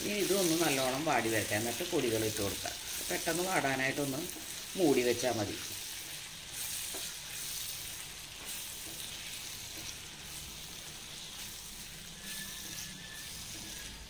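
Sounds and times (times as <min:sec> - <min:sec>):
spatula stirring: 0:00.0 - 0:14.0
vegetables sizzling in a frying pan: 0:00.0 - 0:14.0.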